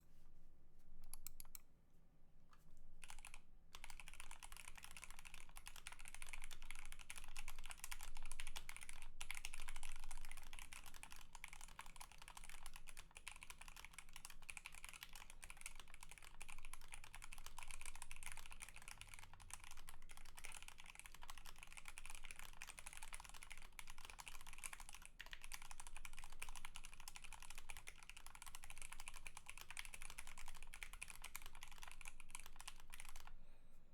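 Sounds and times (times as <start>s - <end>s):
fast mechanical keyboard typing: 3.0s - 33.4s.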